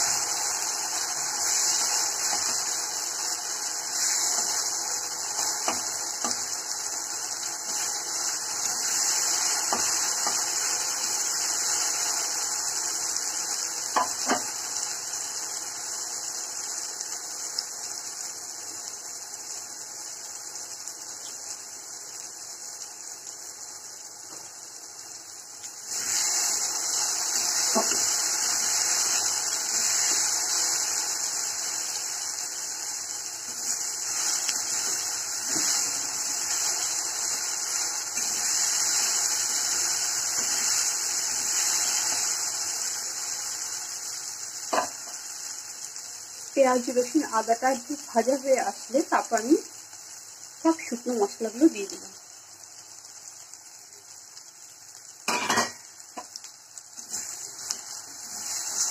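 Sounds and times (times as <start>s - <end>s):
onions sizzling in oil: 0.0s - 58.9s.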